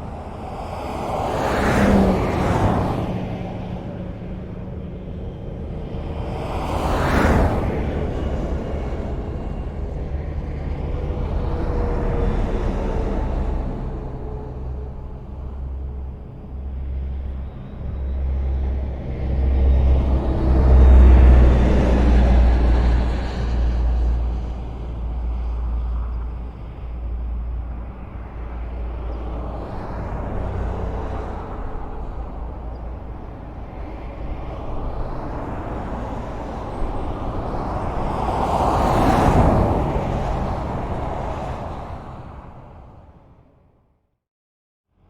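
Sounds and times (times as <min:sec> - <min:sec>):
highway traffic noise: 0:00.0 - 0:44.0.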